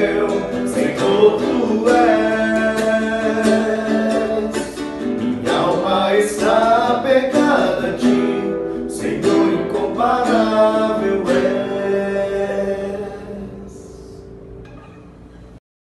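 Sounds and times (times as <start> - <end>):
person singing worship melody: 0.0 - 14.3
acoustic guitar strumming: 0.0 - 15.6.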